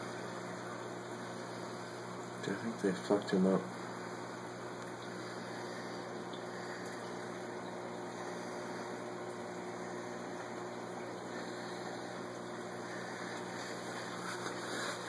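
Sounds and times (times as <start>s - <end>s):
aquarium pump hum: 0.0s - 15.0s.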